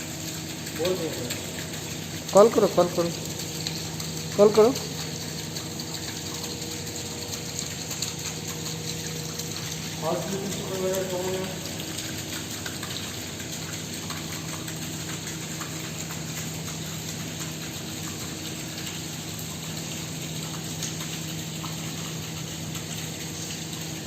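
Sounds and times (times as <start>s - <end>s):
rainwater pouring and splashing: 0.0s - 24.0s.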